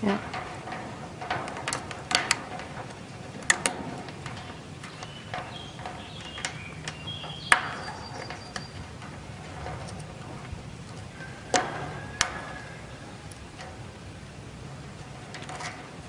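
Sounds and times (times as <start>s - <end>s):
stick tapping wire mesh: 0.0s - 16.0s.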